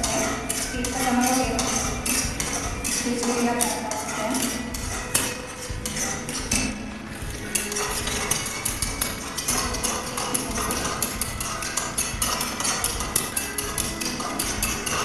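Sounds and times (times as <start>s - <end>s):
paste frying: 0.0s - 15.0s
spatula scraping a steel pan: 0.0s - 15.0s.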